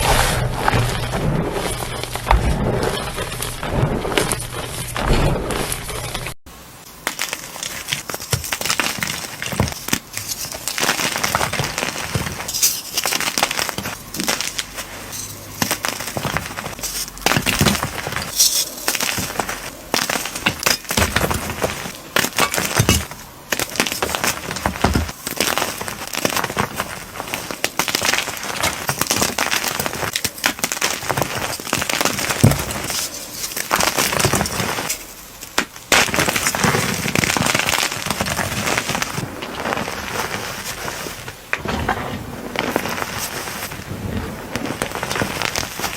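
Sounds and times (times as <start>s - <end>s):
slime crackling and crunching: 0.0s - 45.9s.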